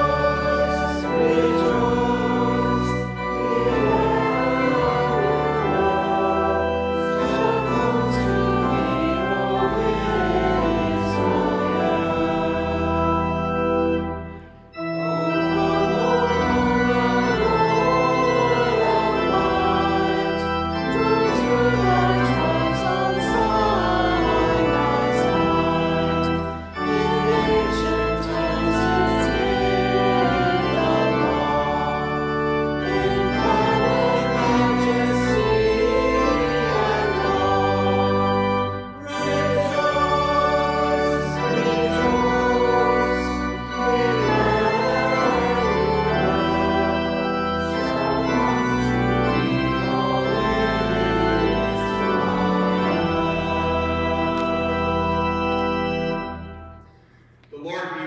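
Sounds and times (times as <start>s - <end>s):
voices singing: 0.0s - 13.5s, 15.2s - 32.2s, 32.8s - 55.1s
church organ playing a hymn: 0.0s - 58.0s.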